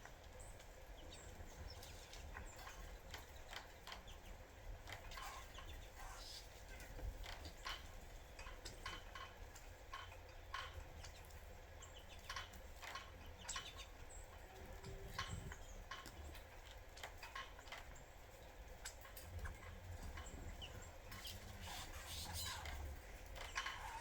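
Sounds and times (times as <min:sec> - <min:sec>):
birds pecking and cracking seeds: 0:00.0 - 0:24.0.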